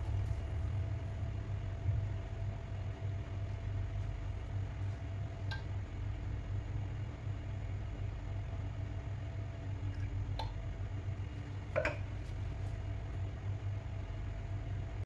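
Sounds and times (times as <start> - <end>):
electric cooktop hum and whine: 0.0 - 15.0.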